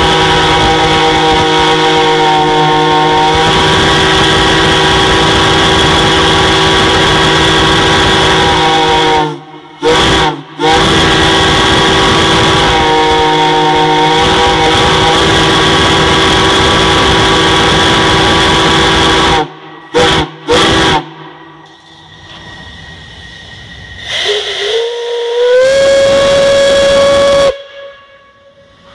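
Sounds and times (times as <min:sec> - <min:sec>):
steam hissing: 0:00.0 - 0:28.9
steam whistles blowing: 0:00.0 - 0:28.9.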